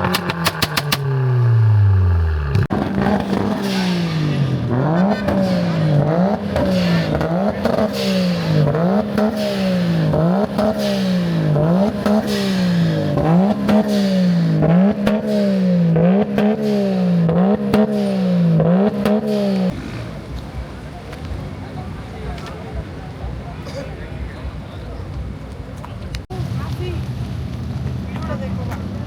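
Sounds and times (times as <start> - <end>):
car engine revving: 0.0 - 23.6
exhaust crackles: 0.0 - 29.0.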